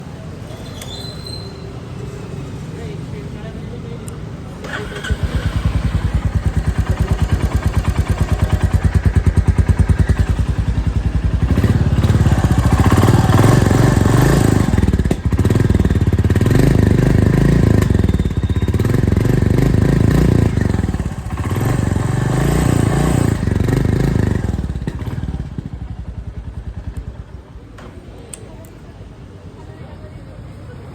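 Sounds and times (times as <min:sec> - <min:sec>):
motorcycle engine idling and revving: 0:04.1 - 0:29.3.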